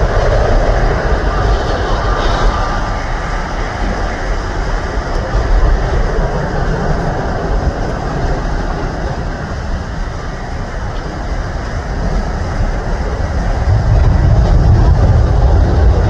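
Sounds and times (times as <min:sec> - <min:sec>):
jet airliner takeoff roll: 0:00.0 - 0:16.0.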